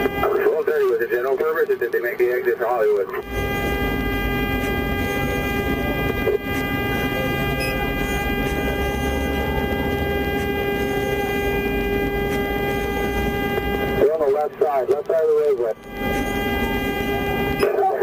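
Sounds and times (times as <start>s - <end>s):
steady pitched tone: 1.9s - 18.0s.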